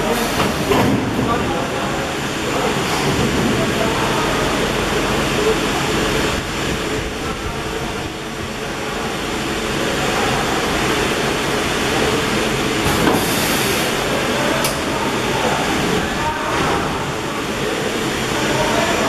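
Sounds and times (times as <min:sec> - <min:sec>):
welding machine hiss and rumble: 0:00.0 - 0:19.0.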